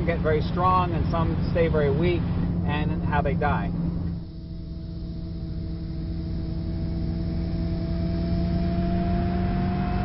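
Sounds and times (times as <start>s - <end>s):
truck engine rumbling: 0.0s - 9.4s.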